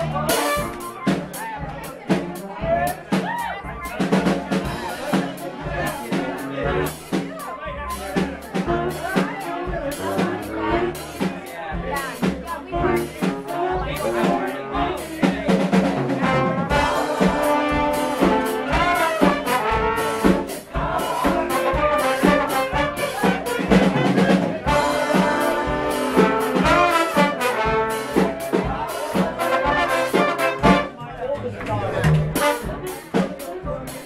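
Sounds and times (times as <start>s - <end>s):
drum kit beat: 0.0s - 31.1s, 31.7s - 34.0s
brass band playing funk: 0.0s - 34.0s.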